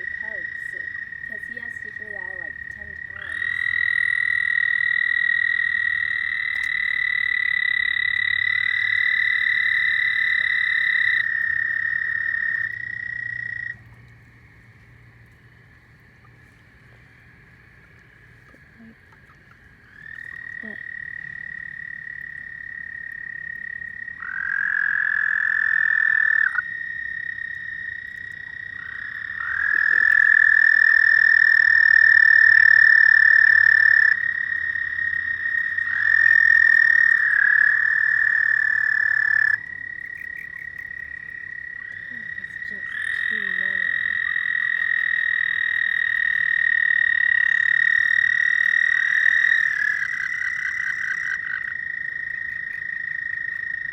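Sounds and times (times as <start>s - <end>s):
constant high-pitched frog trill: 0.0s - 53.9s
frogs long high trills: 0.0s - 53.9s.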